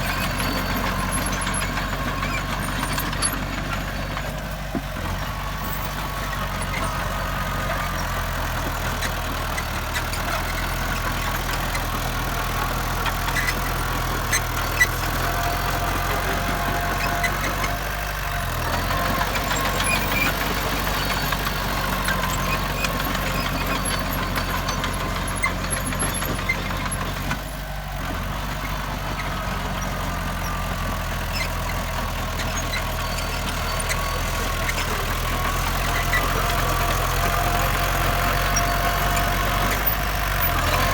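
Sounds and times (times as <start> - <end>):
diesel machinery running: 0.0 - 40.9.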